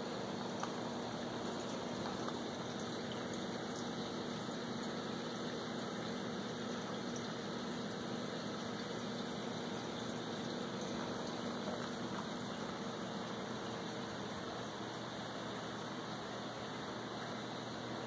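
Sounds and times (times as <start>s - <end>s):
pump motor hum: 0.0s - 18.0s
trickling aquarium water: 0.0s - 18.0s.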